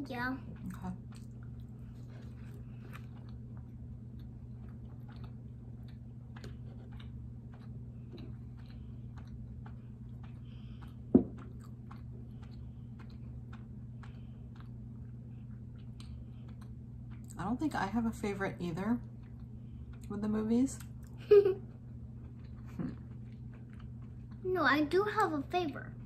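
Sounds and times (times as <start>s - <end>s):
low hum: 0.0s - 26.0s
people chewing food: 0.0s - 26.0s.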